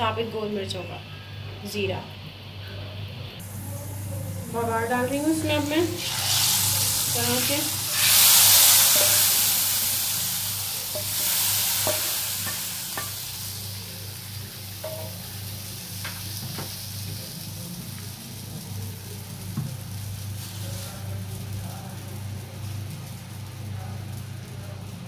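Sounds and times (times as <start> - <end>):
hot oil sizzling: 3.4 - 25.0.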